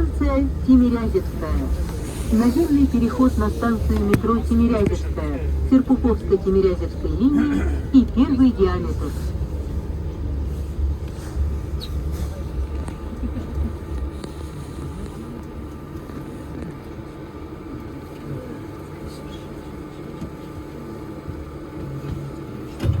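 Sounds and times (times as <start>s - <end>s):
faint voices: 0.0s - 23.0s
train interior rumble: 0.0s - 23.0s.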